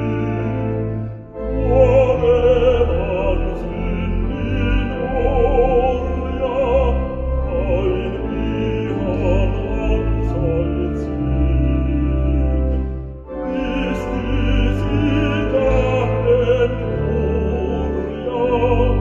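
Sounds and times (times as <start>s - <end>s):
man singing a hymn: 0.0s - 19.0s
pipe organ low notes: 0.0s - 19.0s.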